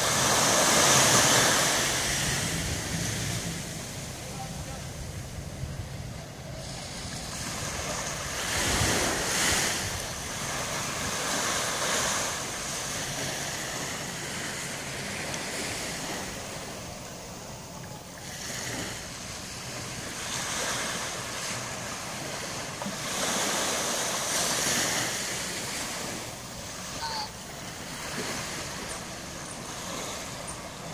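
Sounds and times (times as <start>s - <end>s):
small waves washing on sand: 0.0s - 30.9s.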